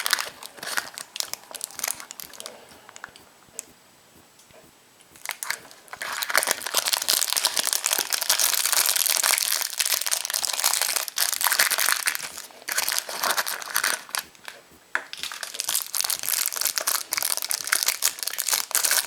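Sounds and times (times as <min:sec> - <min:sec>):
foil wrapper crinkling: 0:00.0 - 0:03.2, 0:05.2 - 0:19.0.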